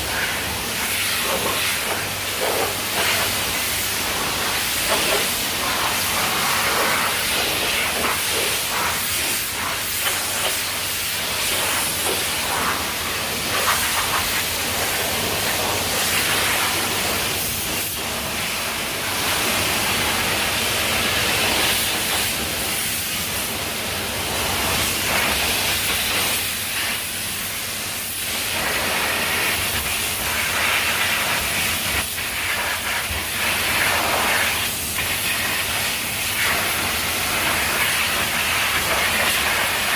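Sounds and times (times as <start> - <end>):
high-pressure water spraying: 0.0 - 39.9.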